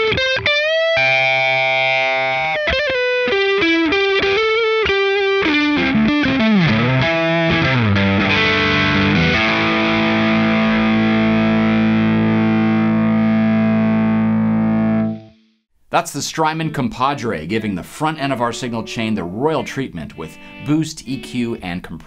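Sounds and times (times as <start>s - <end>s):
overdriven electric guitar: 0.0s - 15.6s, 18.3s - 22.0s.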